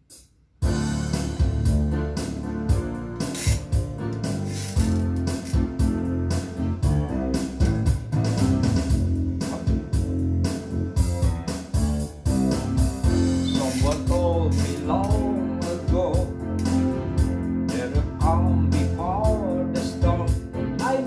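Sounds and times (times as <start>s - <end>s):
steady drum beat: 0.0s - 21.0s
guitar: 0.6s - 21.0s
keyboard: 0.6s - 21.0s.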